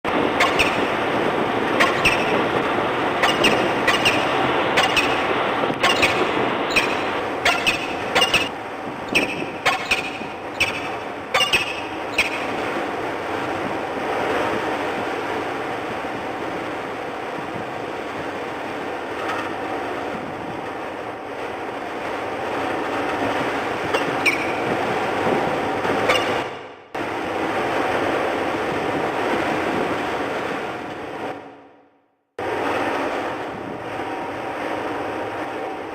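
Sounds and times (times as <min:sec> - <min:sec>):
wind buffeting microphone: 0:00.0 - 0:31.6, 0:32.4 - 0:35.9.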